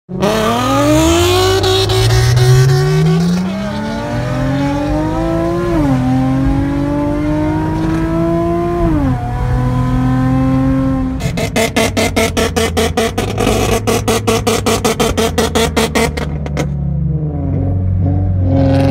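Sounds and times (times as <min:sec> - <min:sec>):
car accelerating through gears: 0:00.1 - 0:18.9.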